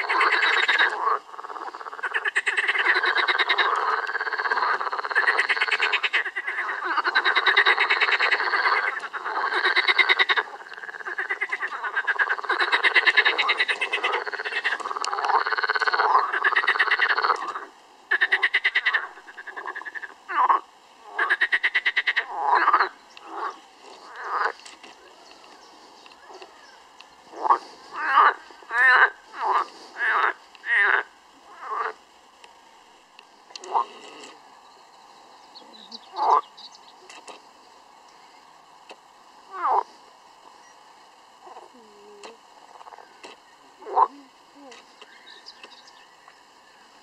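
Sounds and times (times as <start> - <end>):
frogs croaking: 0.0 - 47.0.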